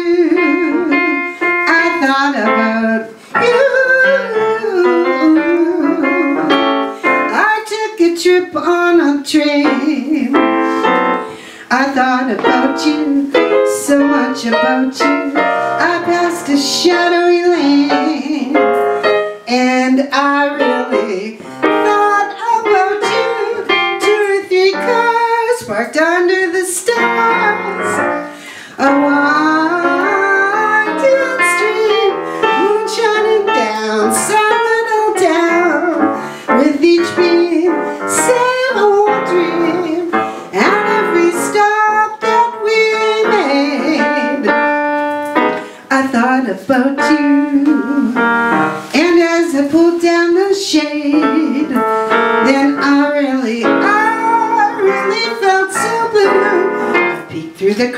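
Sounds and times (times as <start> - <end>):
piano accompaniment: 0.0 - 57.9
woman singing into a microphone: 0.0 - 57.9.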